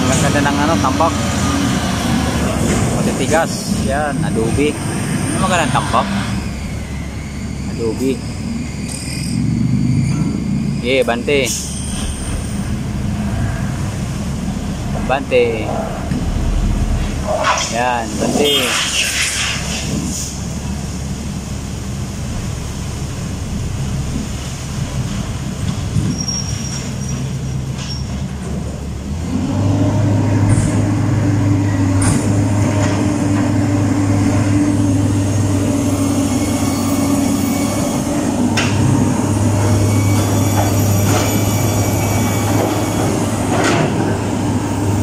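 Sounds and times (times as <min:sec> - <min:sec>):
diesel engines running: 0:00.0 - 0:45.0.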